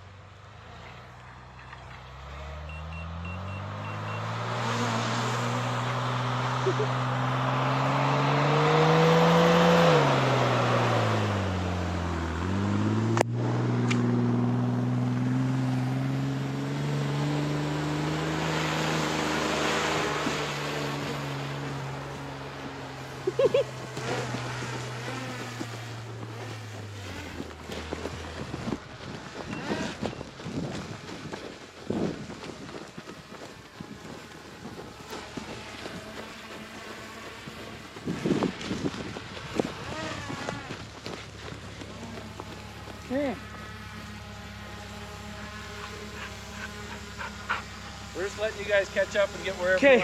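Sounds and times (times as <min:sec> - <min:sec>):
vehicle engine revving: 0:00.0 - 0:50.0.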